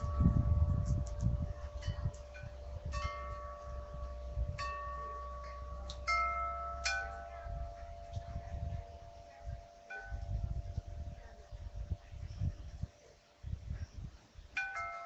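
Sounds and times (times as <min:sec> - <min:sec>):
wind chimes ringing: 0:00.0 - 0:12.3, 0:14.6 - 0:15.0
low steady rumble: 0:00.0 - 0:15.0.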